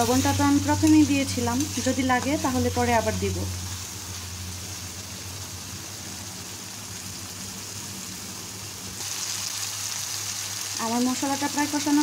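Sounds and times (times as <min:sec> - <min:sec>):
paste sizzling in oil: 0:00.0 - 0:12.0.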